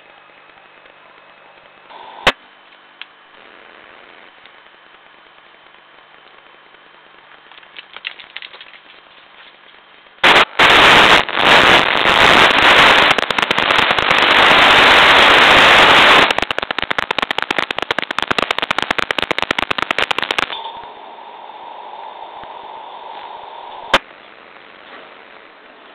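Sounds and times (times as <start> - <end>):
loud static hiss: 0.0 - 25.9
rapid crackling: 0.0 - 25.9.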